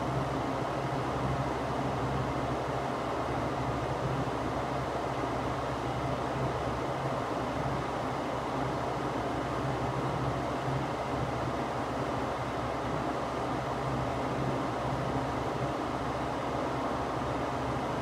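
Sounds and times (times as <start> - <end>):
electric fan running: 0.0 - 18.0.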